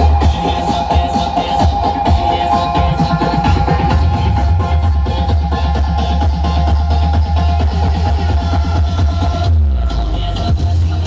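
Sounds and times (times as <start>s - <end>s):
electronic dance music with heavy bass: 0.0s - 11.0s.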